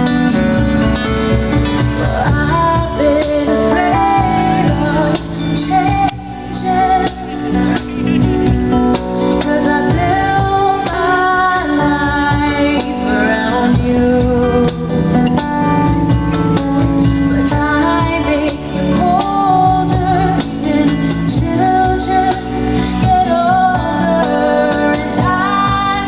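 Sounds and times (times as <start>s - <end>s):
woman singing slow melody: 1.8s - 15.4s, 17.4s - 26.0s.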